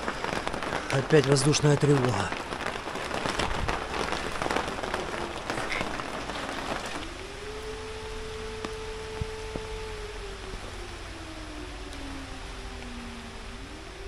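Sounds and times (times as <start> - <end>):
dense crackling patter: 0.0 - 14.0
air-raid siren wailing: 2.3 - 14.0.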